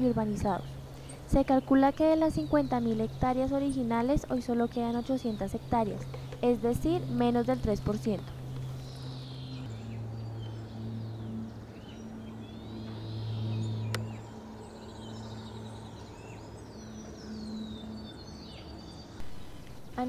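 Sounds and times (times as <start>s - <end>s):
birds chirping and calling: 0.0s - 20.0s
steady low hum: 0.0s - 20.0s.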